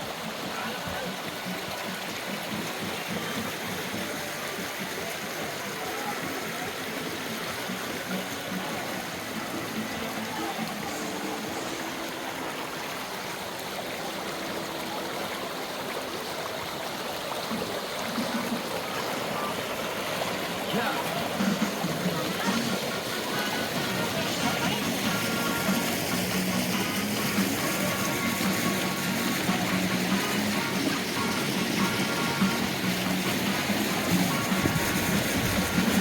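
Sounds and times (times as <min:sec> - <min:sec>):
rushing water: 0:00.0 - 0:36.0.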